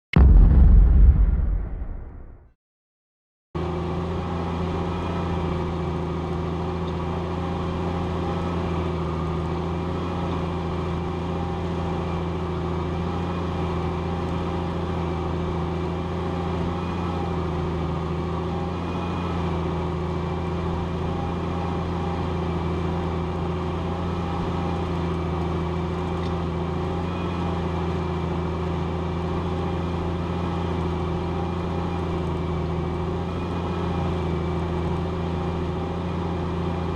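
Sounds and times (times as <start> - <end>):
tractor diesel engine droning: 3.6 - 36.9.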